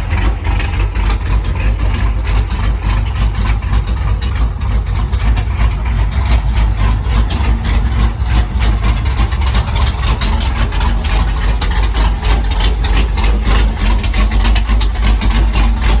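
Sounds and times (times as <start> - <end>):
engine idling loudly: 0.0 - 16.0.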